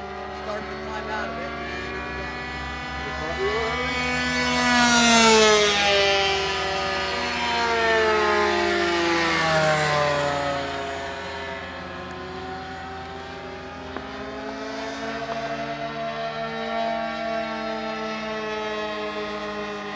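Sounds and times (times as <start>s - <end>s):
model airplane engines buzzing: 0.0s - 19.9s.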